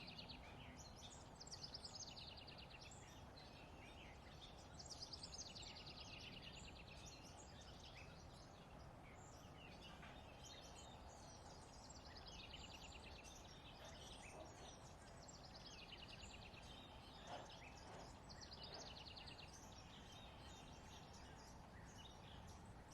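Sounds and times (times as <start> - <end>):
faint steady background noise: 0.0 - 22.9.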